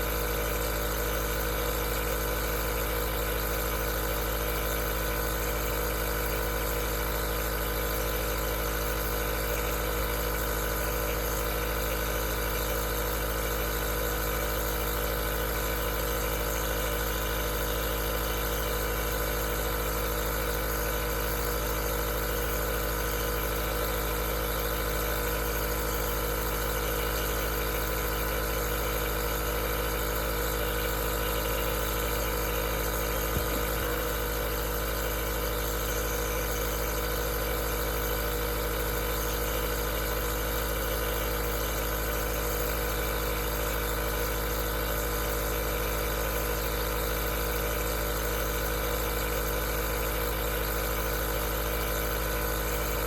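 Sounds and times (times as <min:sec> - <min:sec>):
nebulizer compressor humming: 0:00.0 - 0:53.0.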